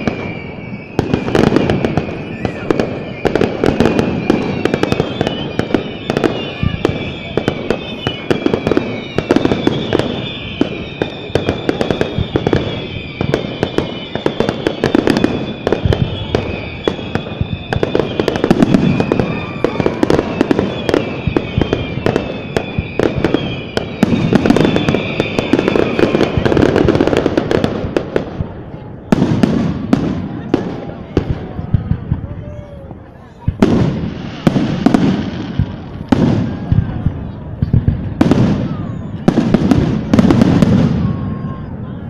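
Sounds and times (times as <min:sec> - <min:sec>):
fireworks crackling and popping: 0:00.0 - 0:42.0.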